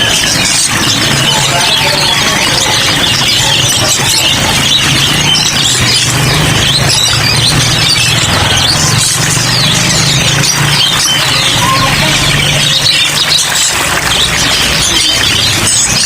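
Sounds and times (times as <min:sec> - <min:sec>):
songbirds chirping and singing: 0:00.0 - 0:16.0.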